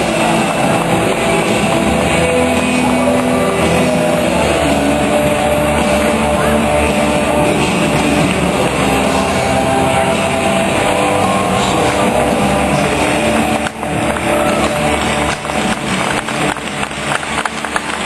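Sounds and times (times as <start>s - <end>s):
dense steady roar: 0.0s - 18.0s
music over sound system: 0.0s - 18.0s.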